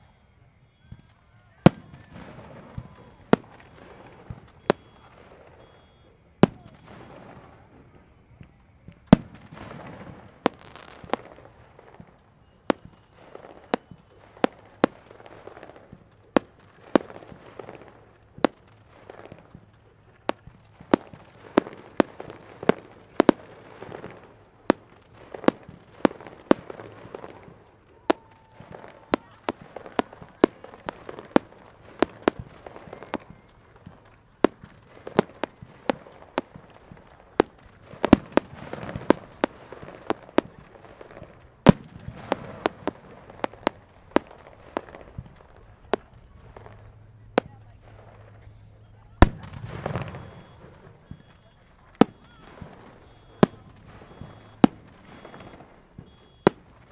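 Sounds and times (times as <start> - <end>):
firework bangs: 0.8 - 56.9.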